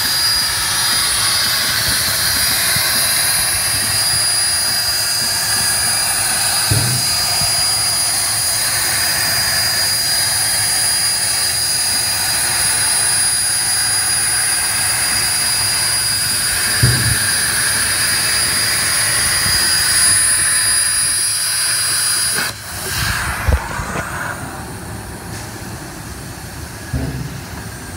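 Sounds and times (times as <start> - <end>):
plasma cutter hissing with whine: 0.0 - 27.9.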